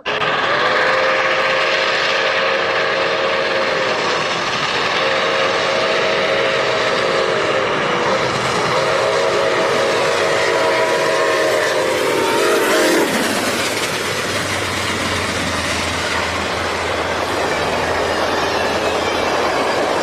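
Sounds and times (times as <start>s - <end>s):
steam locomotive chime whistle: 0.0s - 20.0s
train rumble and clatter: 0.0s - 20.0s.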